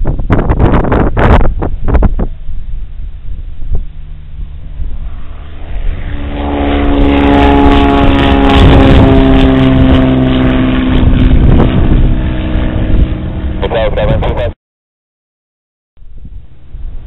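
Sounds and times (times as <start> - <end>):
wind rumble: 0.0 - 14.5, 16.0 - 17.0
propeller airplane passing: 0.1 - 14.6, 16.0 - 17.0.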